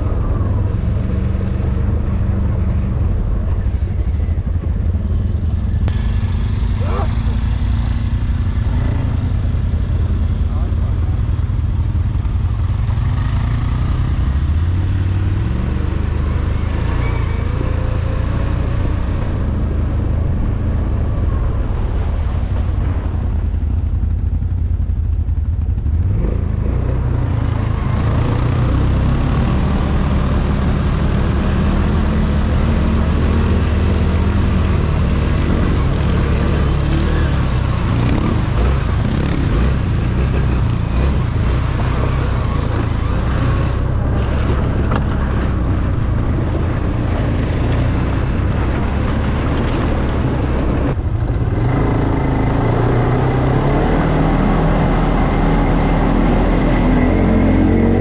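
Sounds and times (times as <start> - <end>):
atv engine revving: 5.9 - 21.1, 25.7 - 58.0.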